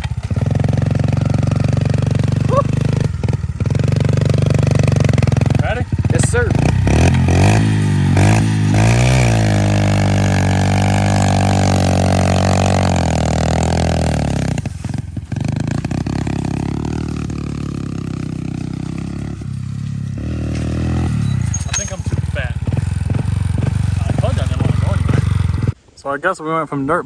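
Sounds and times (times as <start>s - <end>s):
pit bike engine revving: 0.0s - 25.8s.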